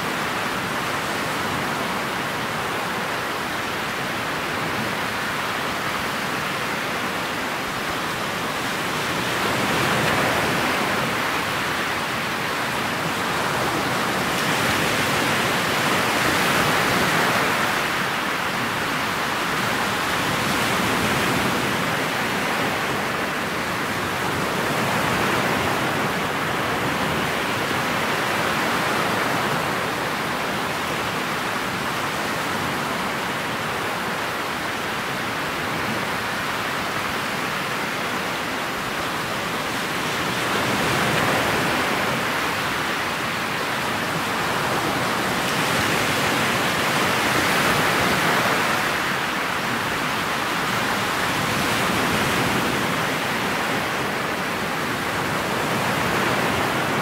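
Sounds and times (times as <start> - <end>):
water rushing along boat hull: 0.0 - 57.0.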